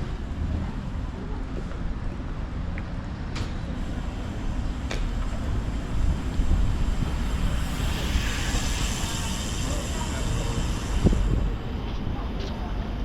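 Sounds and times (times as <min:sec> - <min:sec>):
street low rumble: 0:00.0 - 0:13.0.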